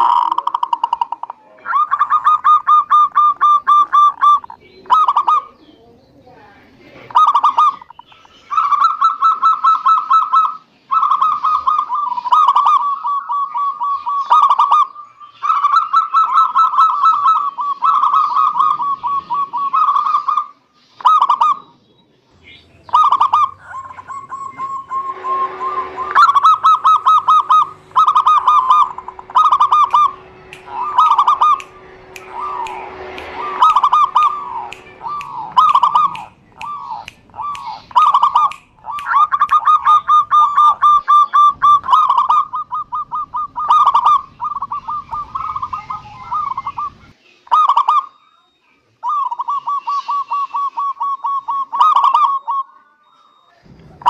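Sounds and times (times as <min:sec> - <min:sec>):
doves cooing: 0:00.0 - 0:21.8, 0:22.5 - 0:48.2, 0:49.0 - 0:52.8.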